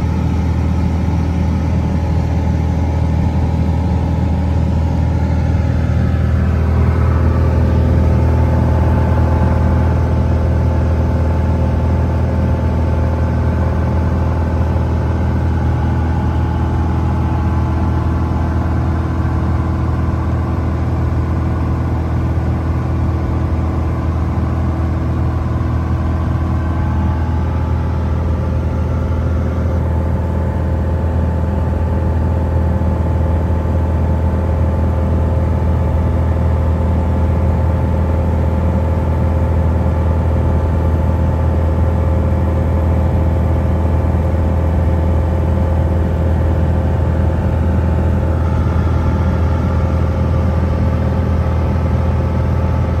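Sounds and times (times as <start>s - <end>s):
aircraft engine drone in cabin: 0.0s - 53.0s.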